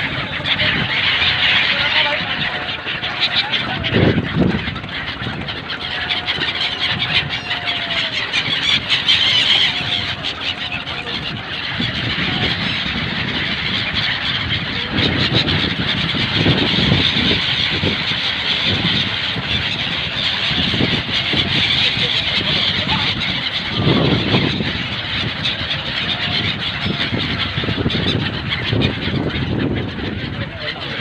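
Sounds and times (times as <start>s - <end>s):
gulls squealing: 0.0s - 31.0s.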